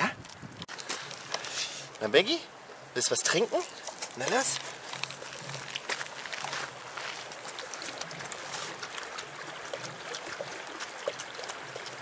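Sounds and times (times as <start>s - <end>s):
stream water trickling: 0.2s - 12.0s
light splashes and drips: 0.6s - 12.0s.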